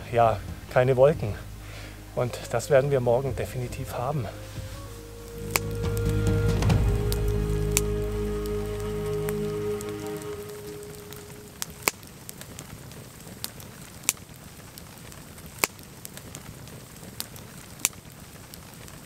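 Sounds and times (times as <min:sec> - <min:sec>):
burning wood popping: 0:00.0 - 0:19.0
campfire crackling: 0:00.0 - 0:19.0
low steady hiss: 0:00.0 - 0:19.0.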